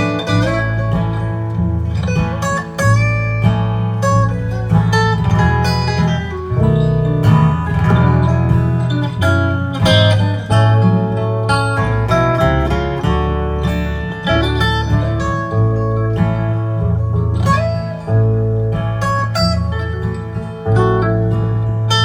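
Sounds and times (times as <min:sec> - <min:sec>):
bass guitar: 0:00.0 - 0:22.0
lead guitar with sliding notes: 0:00.0 - 0:22.0
strummed acoustic guitar: 0:00.0 - 0:22.0.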